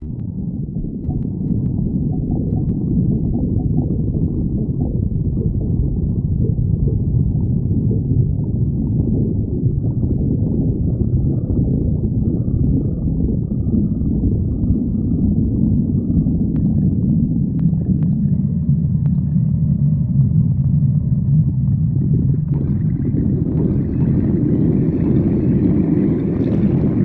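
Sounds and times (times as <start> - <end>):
stomach growling: 0.0 - 27.0.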